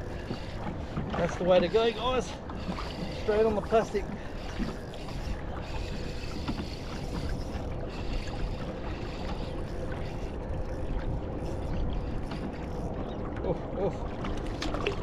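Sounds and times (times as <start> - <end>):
small waves lapping on hull: 0.0 - 15.0.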